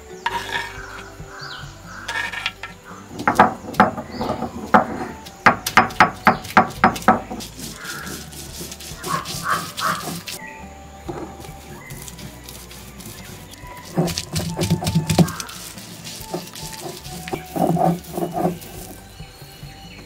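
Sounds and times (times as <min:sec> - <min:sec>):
stone roller grinding on stone: 0:00.0 - 0:10.4, 0:11.0 - 0:20.0.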